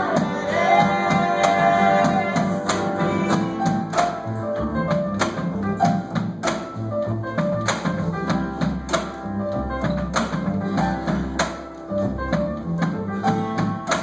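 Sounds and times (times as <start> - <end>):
steady percussive beat: 0.0 - 14.0
strummed acoustic guitar: 0.0 - 14.0
upright bass: 0.0 - 14.0.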